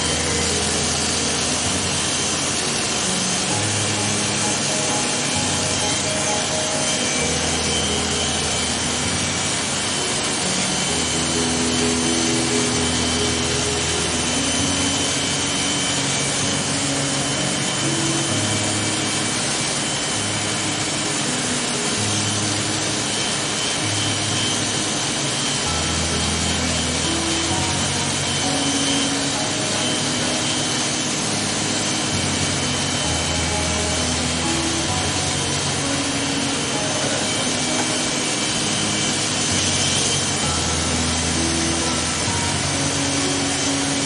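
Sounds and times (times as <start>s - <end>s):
background music with low notes: 0.0s - 44.0s
electric hair clippers cutting: 0.0s - 44.0s.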